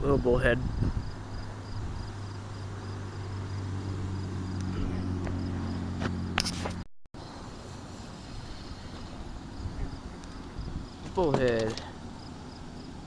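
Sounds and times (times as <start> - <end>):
steady low hum: 0.0 - 13.0
night insects chirping: 0.1 - 6.4, 7.2 - 13.0.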